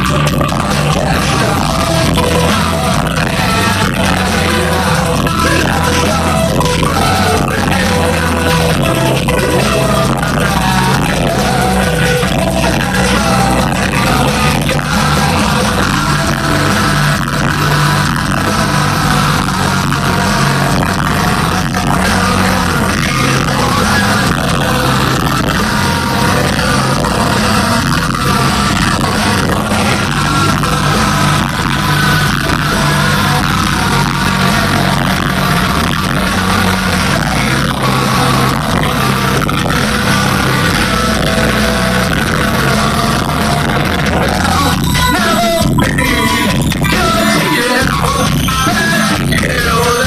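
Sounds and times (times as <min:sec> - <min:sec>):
rock band playing live: 0:00.0 - 0:50.0.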